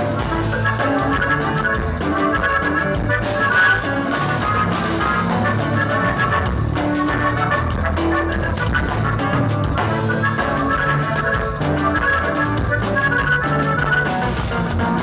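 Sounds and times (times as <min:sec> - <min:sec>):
accordion melody: 0:00.0 - 0:15.0
band playing: 0:00.0 - 0:15.0.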